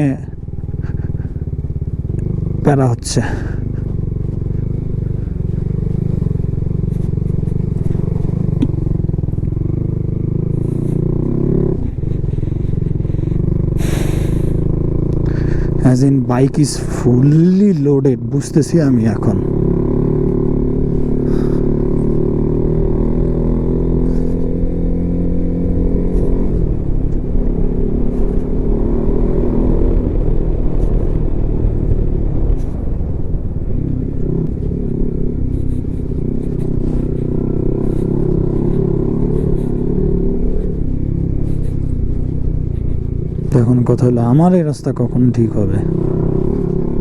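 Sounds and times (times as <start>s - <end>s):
motorcycle engine under load: 0.0s - 47.0s
motorcycle clattering over bumps: 0.3s - 15.8s, 19.0s - 47.0s.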